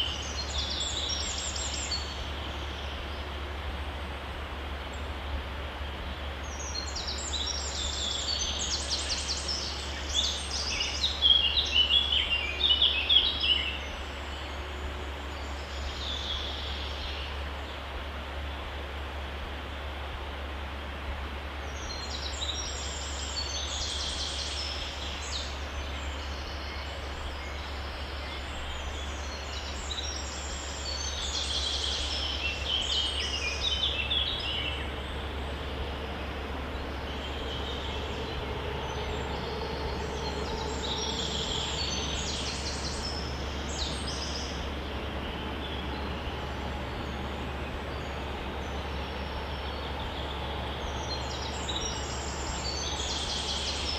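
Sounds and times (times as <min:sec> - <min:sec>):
constant low hum: 0:00.0 - 0:53.9.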